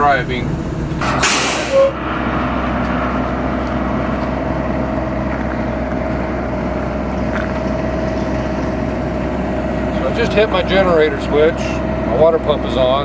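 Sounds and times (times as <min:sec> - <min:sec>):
motorhome engine humming: 0:00.0 - 0:13.0.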